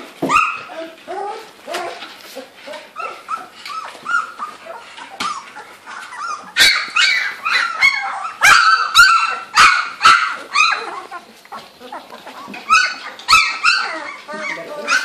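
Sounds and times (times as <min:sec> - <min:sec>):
puppies yipping and whining: 0:00.1 - 0:15.0.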